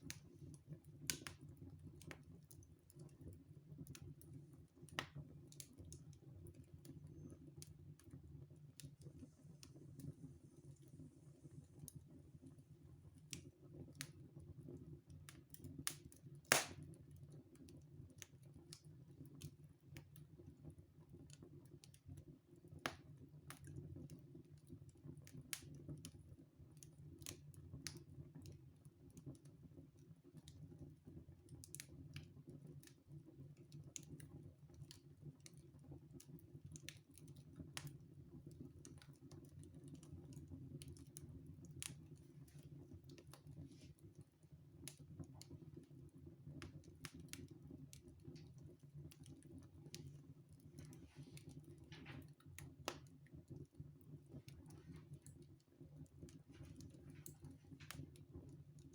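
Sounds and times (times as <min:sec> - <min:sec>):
wood fire crackling: 0:00.0 - 0:29.4, 0:30.3 - 0:58.9.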